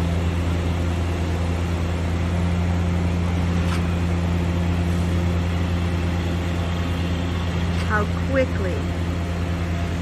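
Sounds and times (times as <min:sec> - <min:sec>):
heavy machinery engine droning: 0:00.0 - 0:10.0.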